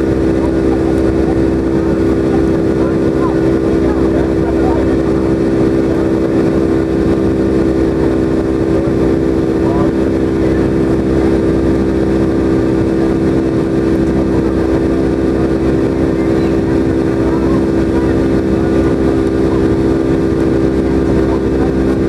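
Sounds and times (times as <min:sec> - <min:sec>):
jet engine cabin rush: 0:00.0 - 0:22.0.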